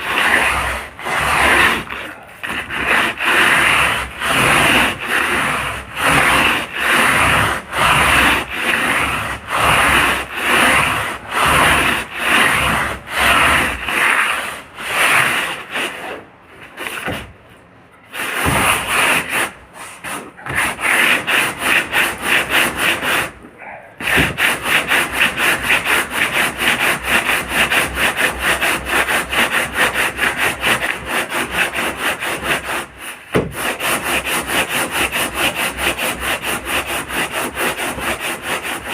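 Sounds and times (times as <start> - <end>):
hand sanding strokes: 0.0 - 17.4, 18.0 - 38.9.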